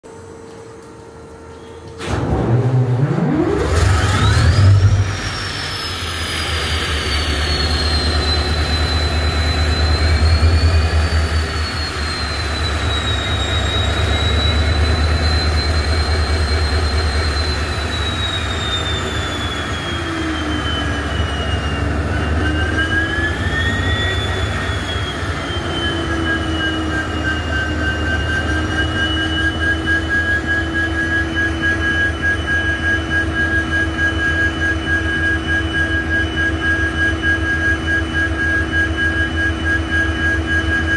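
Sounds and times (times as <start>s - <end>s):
high engine whine: 0.0s - 40.9s
diesel engine starting up: 1.9s - 40.9s.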